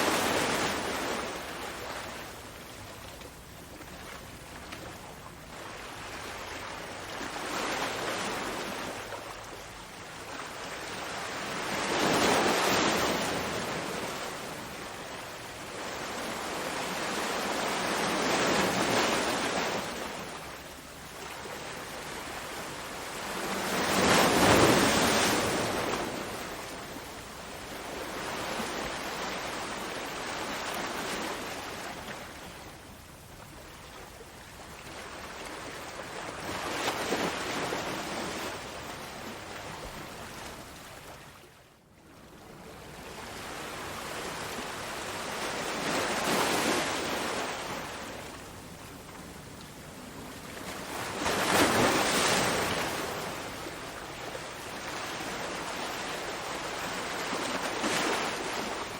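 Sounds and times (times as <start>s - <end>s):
ocean waves breaking on shore: 0.0s - 58.9s.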